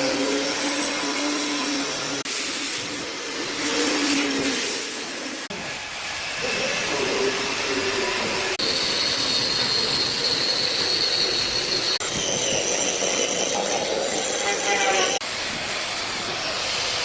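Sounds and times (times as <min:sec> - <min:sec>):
woodworking power tools whining: 0:00.0 - 0:15.2.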